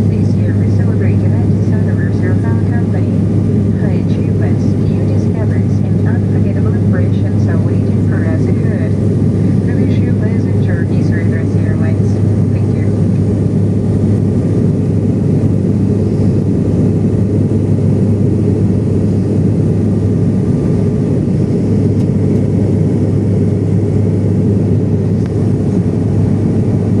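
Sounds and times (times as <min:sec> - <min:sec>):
airliner cabin roar: 0:00.0 - 0:27.0
constant low hum: 0:00.0 - 0:27.0.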